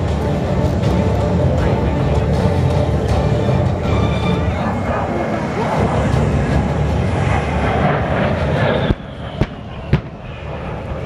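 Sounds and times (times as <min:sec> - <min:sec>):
jet passing: 0:00.0 - 0:11.0.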